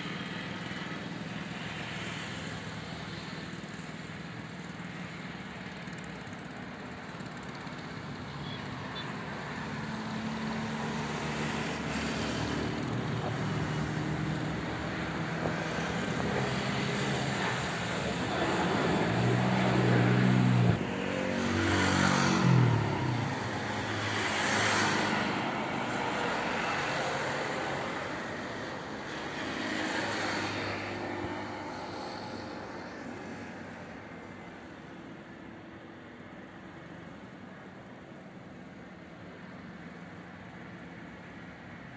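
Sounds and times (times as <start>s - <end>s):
jet engines roaring at takeoff: 0.0s - 41.9s
road traffic passing: 0.0s - 41.9s.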